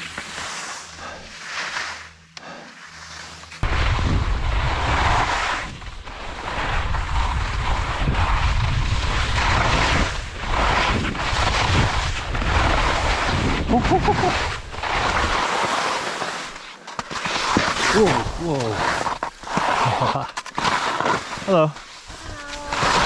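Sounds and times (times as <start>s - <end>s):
skis hissing and scraping on snow: 0.0s - 23.0s.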